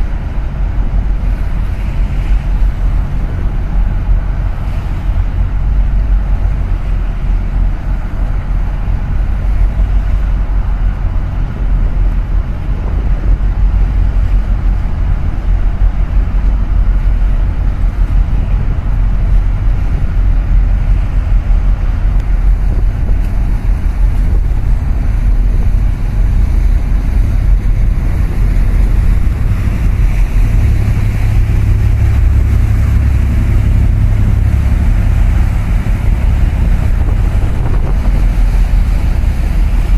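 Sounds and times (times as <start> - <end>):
passing boat rumble: 0.0 - 39.9
small boat engine rumble: 0.0 - 39.9
water rushing past: 0.0 - 39.9
wind buffeting the microphone: 0.0 - 39.9.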